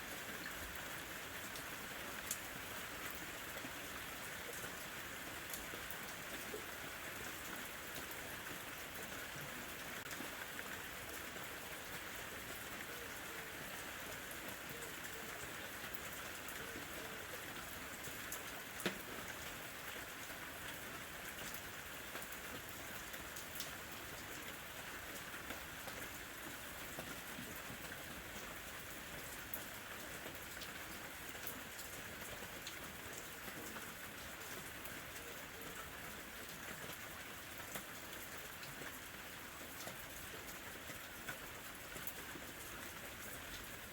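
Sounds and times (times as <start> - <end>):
gentle rain falling: 0.0 - 43.9.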